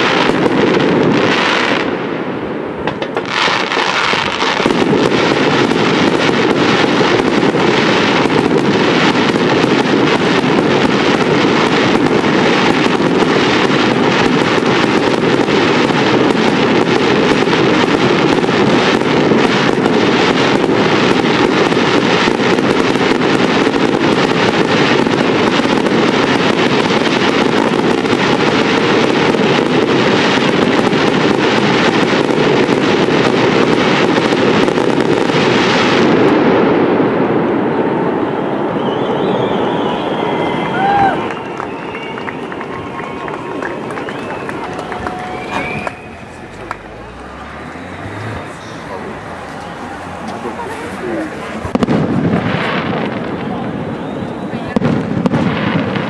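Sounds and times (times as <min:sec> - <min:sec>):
fireworks bangs and crackle: 0:00.0 - 0:56.0.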